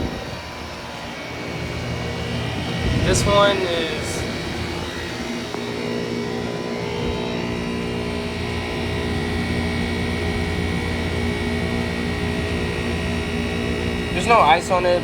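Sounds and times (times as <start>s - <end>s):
heat pump humming: 0.0s - 15.0s
steady tones: 0.0s - 15.0s.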